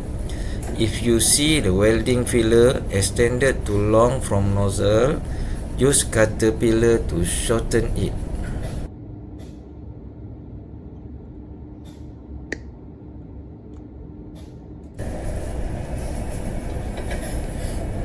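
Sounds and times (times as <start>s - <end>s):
low workshop hum: 0.0s - 18.0s.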